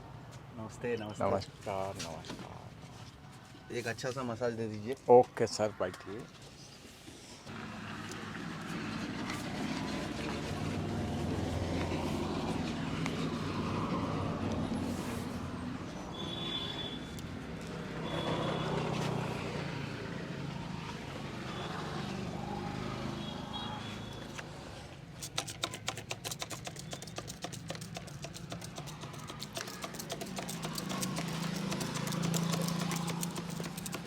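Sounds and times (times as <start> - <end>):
street noise: 0.0 - 34.0.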